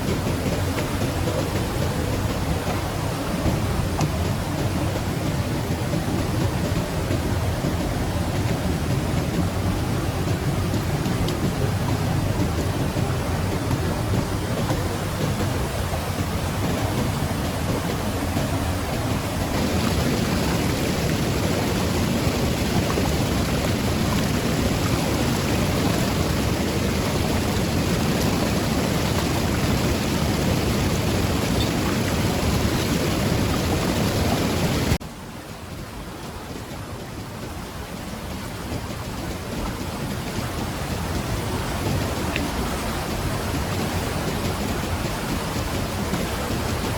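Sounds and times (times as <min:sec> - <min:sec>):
quieter water noise: 0:00.0 - 0:46.9
rushing water: 0:00.0 - 0:46.9.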